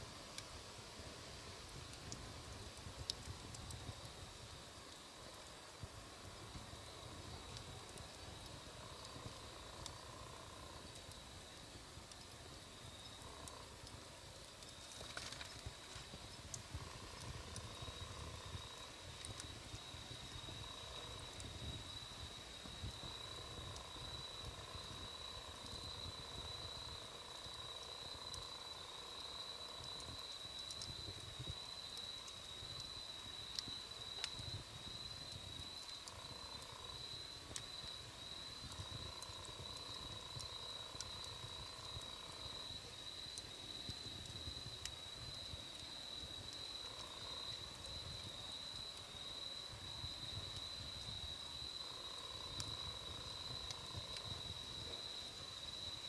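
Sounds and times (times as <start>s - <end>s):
low rumble of flames: 0.2s - 56.0s
wood fire crackling: 0.2s - 56.0s.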